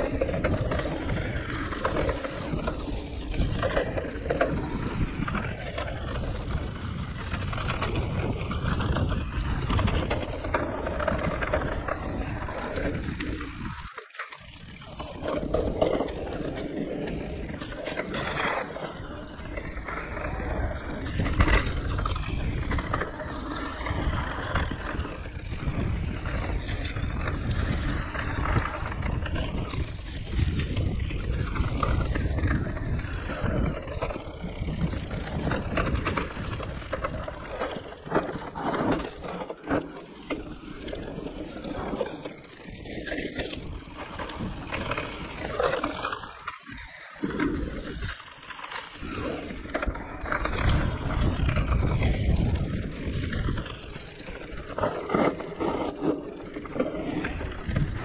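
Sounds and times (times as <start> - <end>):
bike rattling and knocking: 0.0 - 58.0
tyres rolling over roots and stones: 0.0 - 58.0.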